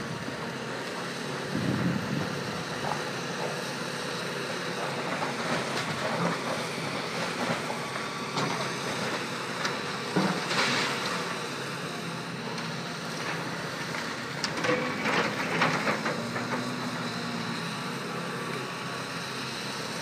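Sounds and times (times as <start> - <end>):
diesel engine hum: 0.0 - 20.0.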